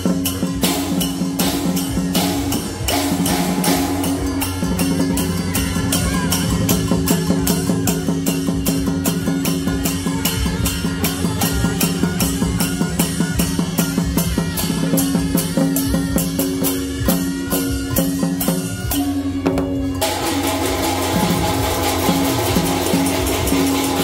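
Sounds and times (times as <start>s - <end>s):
drums gongs and cymbals beating: 0.0s - 24.0s
held wind instrument notes: 0.0s - 24.0s.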